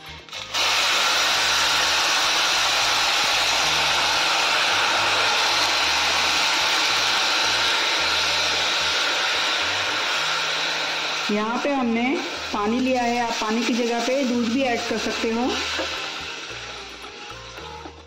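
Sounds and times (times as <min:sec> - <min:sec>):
water hissing in a hot pan: 0:00.4 - 0:17.9.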